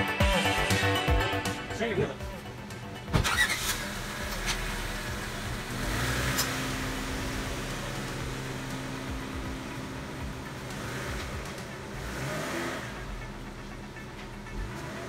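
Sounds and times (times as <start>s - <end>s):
car engine low hum: 2.2s - 15.0s.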